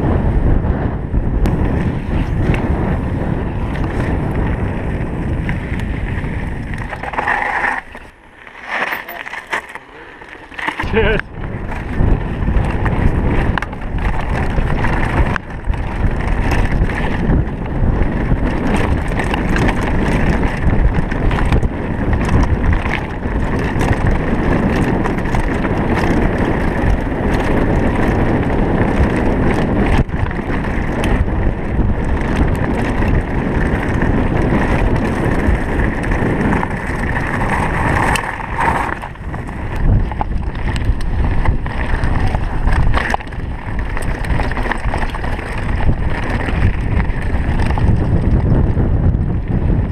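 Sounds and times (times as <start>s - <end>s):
bike rattling over bumps: 0.0s - 49.9s
wind noise on microphone: 0.0s - 49.9s
tyres rumbling over gravel: 1.4s - 49.9s.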